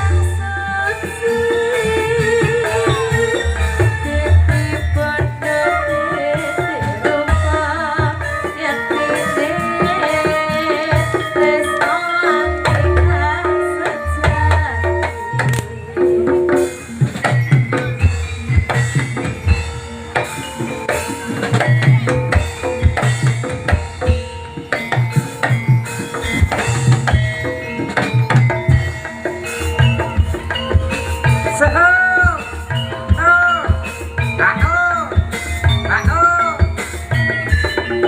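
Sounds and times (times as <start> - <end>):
hand drums and percussion ensemble: 0.0 - 38.0
wavering melody line: 0.0 - 38.0.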